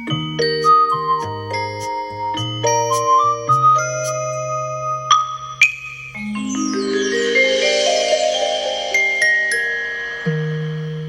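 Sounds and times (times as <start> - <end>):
bell-like melody: 0.0 - 11.0.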